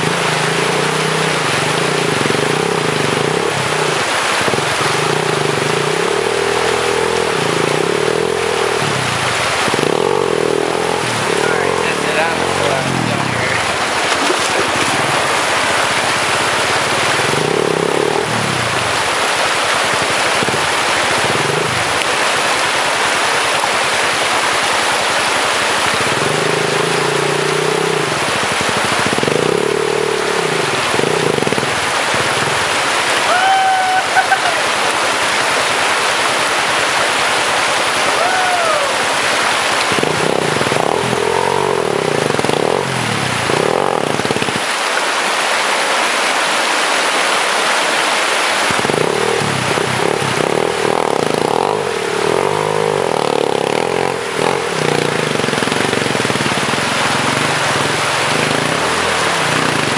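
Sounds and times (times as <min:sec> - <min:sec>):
motorcycle engine revving: 0:00.0 - 0:33.3, 0:34.2 - 0:44.8, 0:48.4 - 0:59.9
rushing river water: 0:00.0 - 0:59.9.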